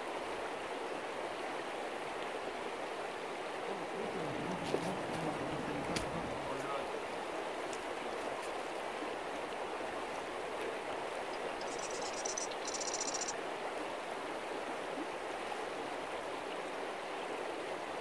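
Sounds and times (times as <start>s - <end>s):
river rushing over stones: 0.0s - 18.0s.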